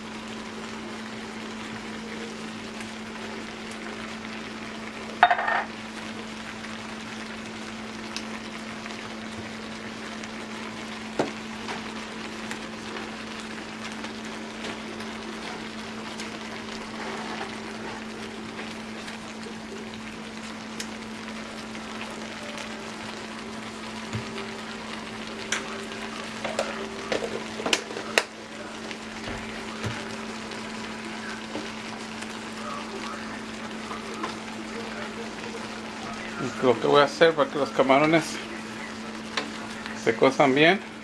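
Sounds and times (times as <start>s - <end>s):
shrimp sizzling in a skillet: 0.0s - 41.0s.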